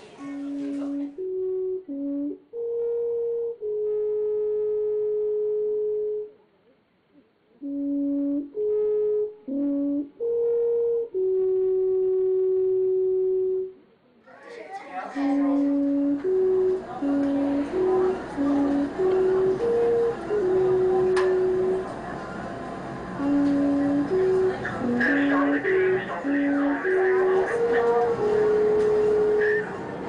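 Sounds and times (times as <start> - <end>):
slow horn melody: 0.2 - 6.4, 7.5 - 13.8, 15.2 - 22.0, 22.8 - 29.8.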